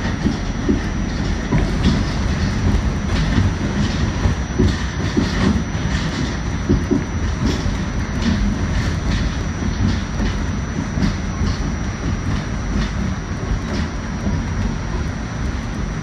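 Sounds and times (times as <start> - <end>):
subway car rumbling on track: 0.0 - 16.0
wheels clicking over rail joints: 0.0 - 16.0.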